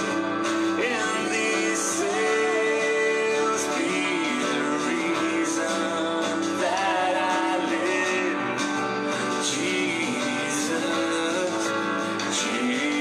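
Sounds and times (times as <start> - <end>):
guitar accompaniment: 0.0 - 13.0
person singing: 0.0 - 13.0.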